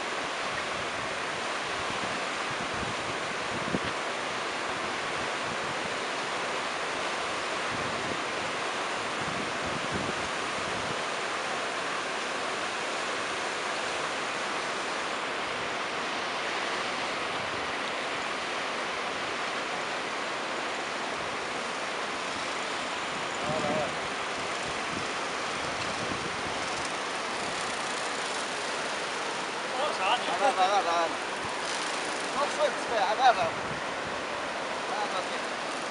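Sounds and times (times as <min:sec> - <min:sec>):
rushing river water: 0:00.0 - 0:35.9.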